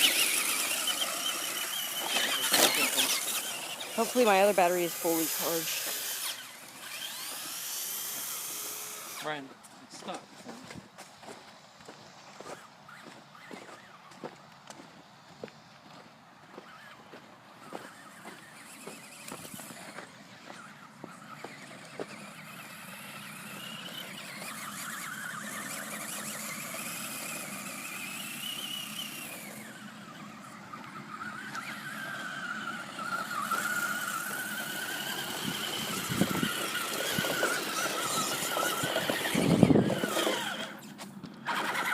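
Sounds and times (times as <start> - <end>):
electric motor whining: 0.0 - 9.5, 17.6 - 41.9.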